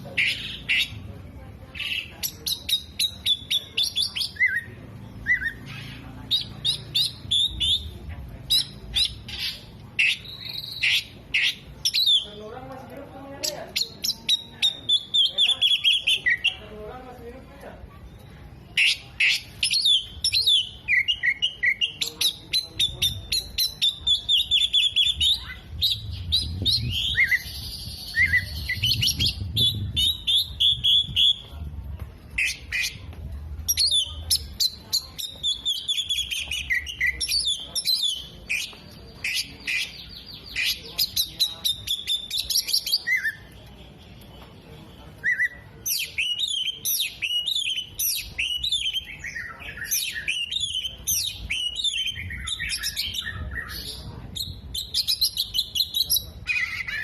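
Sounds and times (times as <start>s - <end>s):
bird singing varied song: 0.0s - 1.1s, 1.7s - 17.0s, 18.0s - 31.6s, 32.2s - 57.0s.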